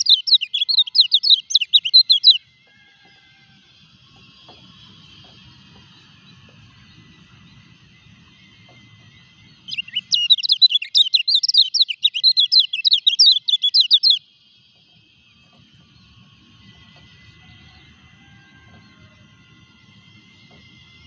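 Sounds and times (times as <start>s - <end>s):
bird twittering song: 0.0s - 21.0s.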